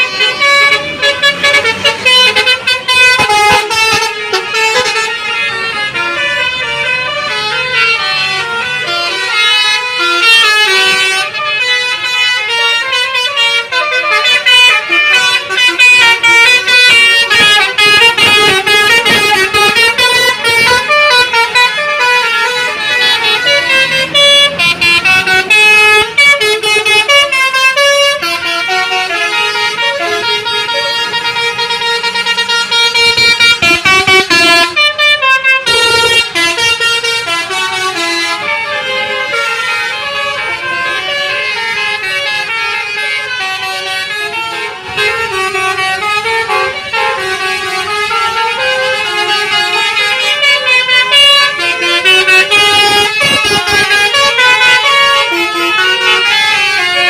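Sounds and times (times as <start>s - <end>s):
bus horns playing tunes: 0.0s - 57.0s.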